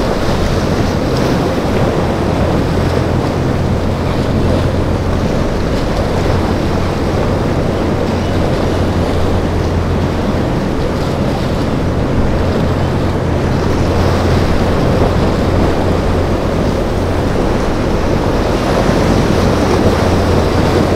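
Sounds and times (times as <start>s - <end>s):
steady low hum: 0.0s - 20.9s
surf crashing: 0.0s - 20.9s
wind buffeting microphone: 0.0s - 20.9s.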